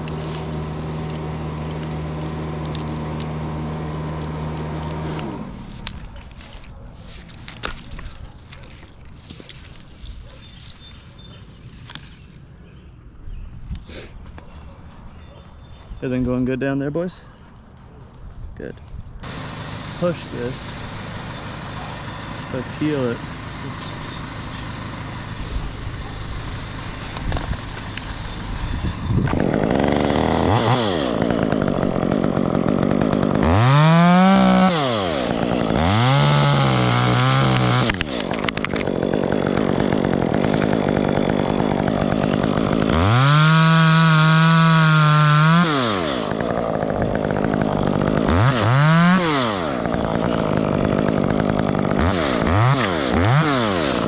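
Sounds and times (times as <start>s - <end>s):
chainsaw idling and revving: 0.0s - 12.3s, 19.2s - 54.0s.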